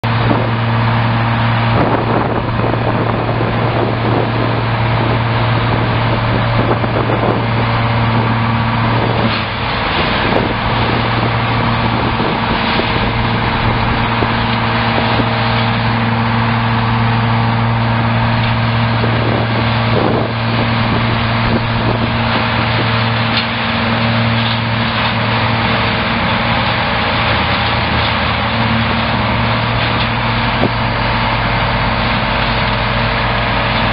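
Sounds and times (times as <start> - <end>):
grinder mechanical drone: 0.0 - 33.9.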